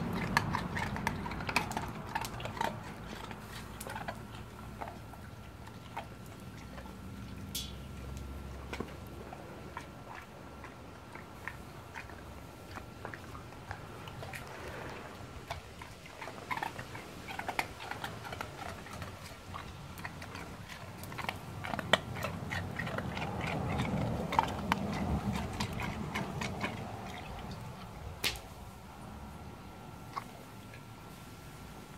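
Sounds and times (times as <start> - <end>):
dog making wet mouth sounds: 0.0 - 28.7, 29.9 - 31.6.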